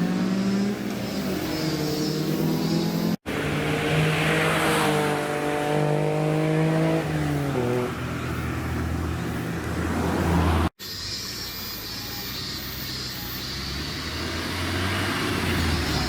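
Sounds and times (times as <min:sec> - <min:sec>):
car engine accelerating: 0:00.0 - 0:10.7, 0:13.5 - 0:16.0.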